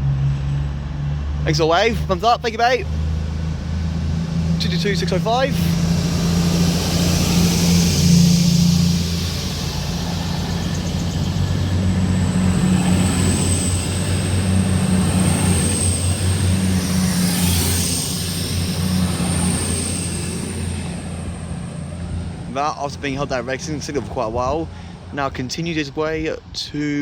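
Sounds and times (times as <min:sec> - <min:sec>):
diesel train engine pulsing: 0:00.0 - 0:26.9
steady high whine: 0:00.7 - 0:26.5.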